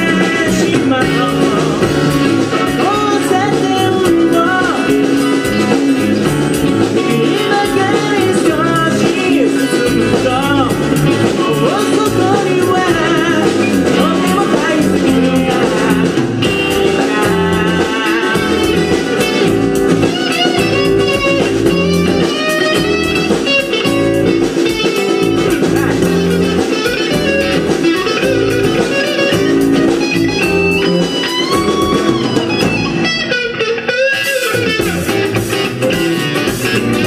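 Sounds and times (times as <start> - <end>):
bending lead guitar line: 0.0 - 37.0
live rock band playing: 0.0 - 37.0.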